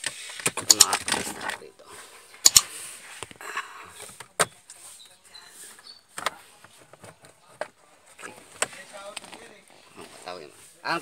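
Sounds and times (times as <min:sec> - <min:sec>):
light scraping and rustling: 0:00.0 - 0:11.0.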